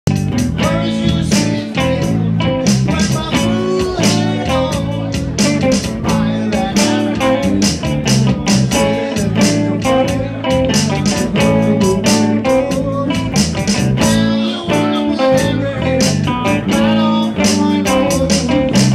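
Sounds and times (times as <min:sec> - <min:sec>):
bass guitar: 0:00.0 - 0:18.9
drum kit beat: 0:00.0 - 0:18.9
electric guitar: 0:00.1 - 0:18.9.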